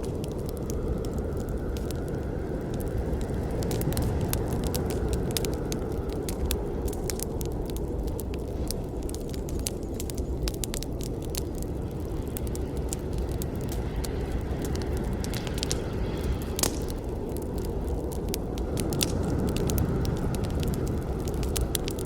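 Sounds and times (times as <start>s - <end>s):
burning wood crackling and popping: 0.0s - 22.0s
rush of campfire flames: 0.0s - 22.0s.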